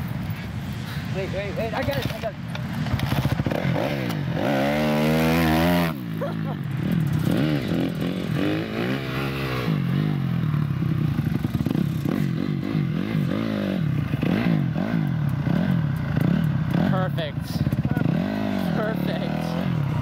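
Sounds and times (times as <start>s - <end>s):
dirt bike engine revving: 1.6s - 20.0s.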